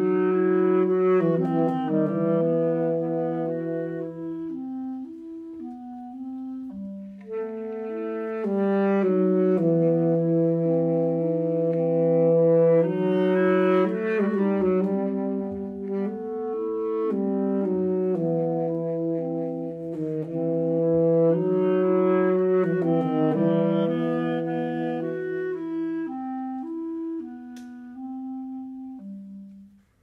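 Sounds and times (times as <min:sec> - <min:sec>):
clarinet: 0:00.0 - 0:30.0
saxophone: 0:00.0 - 0:30.0.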